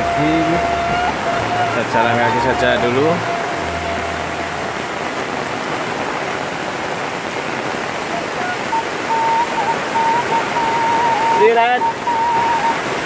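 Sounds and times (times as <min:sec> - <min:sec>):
heavy rain: 0:00.0 - 0:13.0
water running off eaves: 0:00.0 - 0:13.0.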